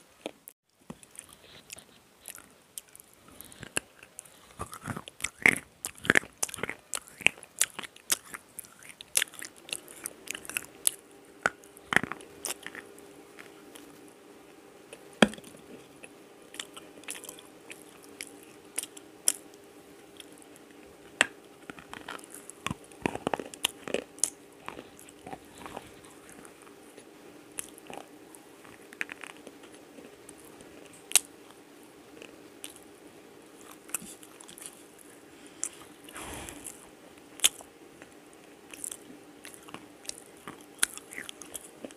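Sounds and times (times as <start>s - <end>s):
pencils being chewed crunching: 0.2s - 32.9s, 33.6s - 41.9s.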